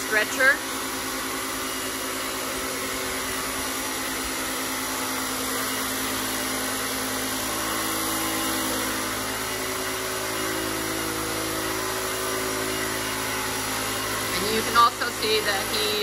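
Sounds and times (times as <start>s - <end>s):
fogger motor and pump hum: 0.0s - 16.0s.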